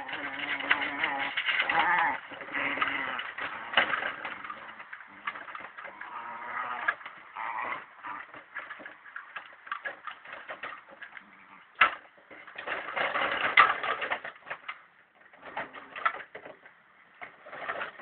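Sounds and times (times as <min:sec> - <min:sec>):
plastic toy car clattering: 0:00.0 - 0:18.0.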